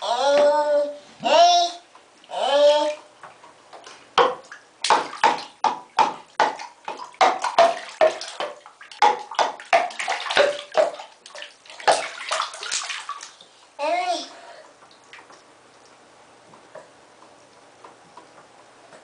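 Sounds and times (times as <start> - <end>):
water splashing in a bathtub: 0.0 - 17.0.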